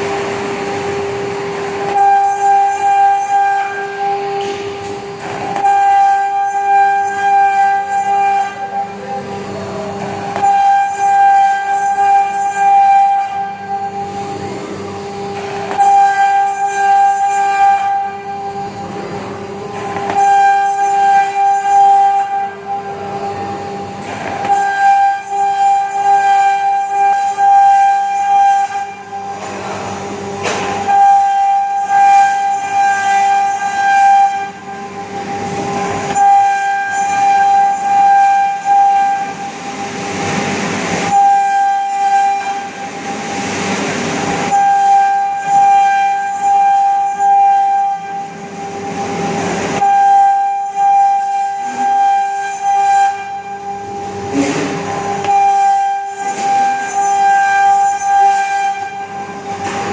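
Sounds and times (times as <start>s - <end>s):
spindle high whine: 0.0s - 59.9s.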